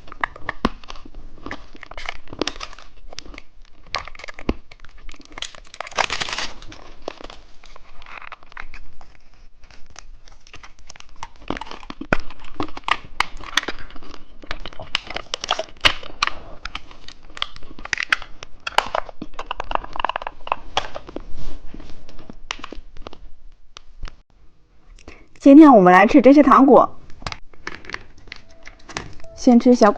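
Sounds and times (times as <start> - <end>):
plastic packaging crinkling: 0.0 - 23.3, 27.4 - 29.9.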